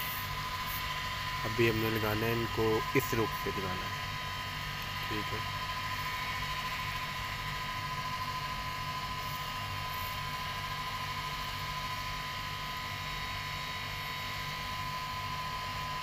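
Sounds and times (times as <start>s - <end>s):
machine hum with high whine: 0.0s - 16.0s.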